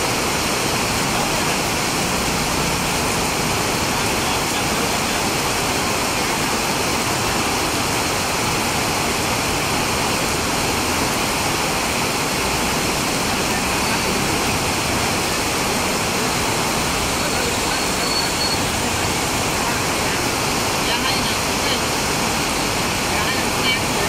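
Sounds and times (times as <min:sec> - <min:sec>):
heavy rain on wet pavement: 0:00.0 - 0:24.0.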